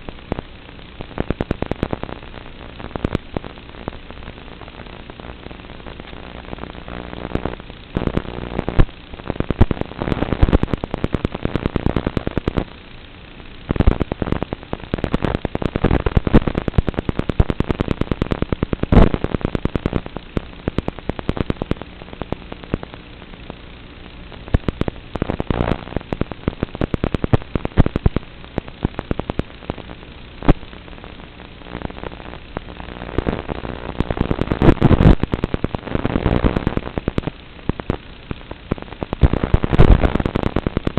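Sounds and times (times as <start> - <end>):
sharp pops and clicks: 0.0 - 12.7, 13.6 - 23.6, 24.3 - 40.9
static hiss: 0.0 - 40.9.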